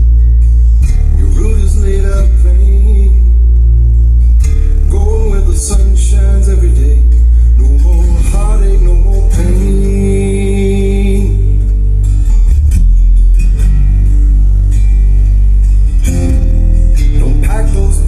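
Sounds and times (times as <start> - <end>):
music with guitar and heavy bass: 0.0 - 18.0.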